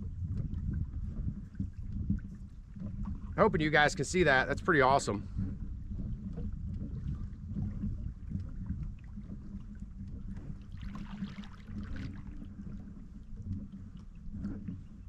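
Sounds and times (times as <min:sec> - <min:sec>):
water moving against kayak: 0:00.0 - 0:15.0
wind on microphone: 0:00.0 - 0:15.0.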